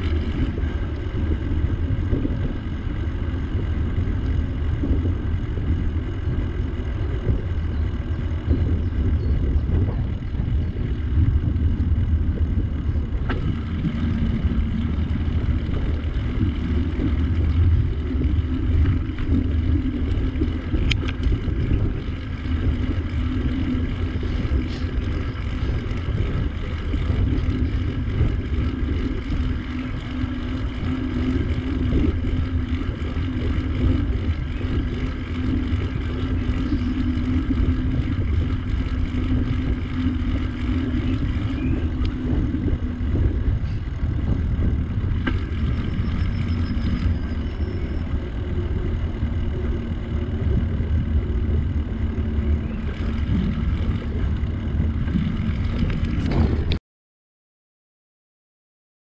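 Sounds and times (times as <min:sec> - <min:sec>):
bicycle rolling noise: 0:00.0 - 0:56.8
faint steady hum: 0:00.0 - 0:56.8.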